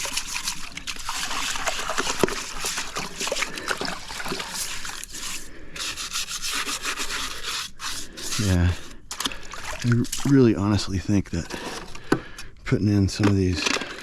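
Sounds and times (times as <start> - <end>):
pool brush scrubbing: 0.0 - 12.0.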